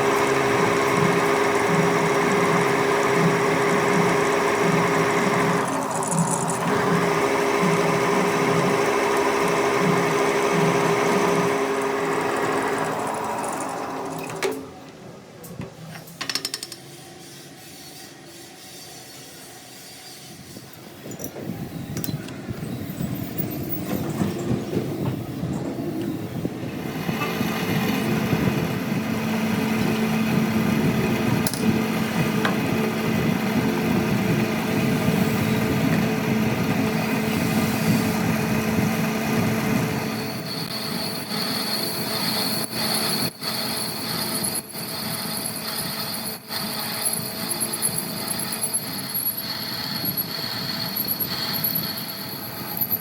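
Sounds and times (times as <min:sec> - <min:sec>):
workshop machine humming: 0:00.0 - 0:16.5, 0:20.7 - 0:53.0.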